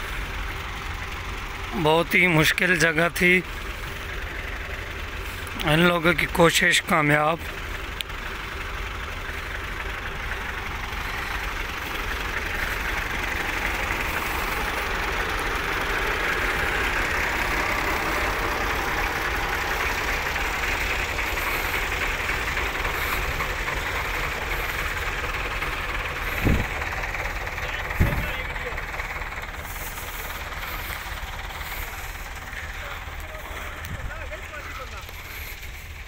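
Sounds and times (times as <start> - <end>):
tractor diesel engines under load: 0.0 - 36.0.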